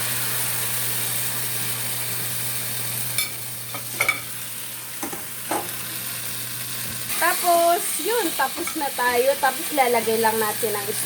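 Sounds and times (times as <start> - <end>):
stew sizzling in a pot: 0.0 - 11.0.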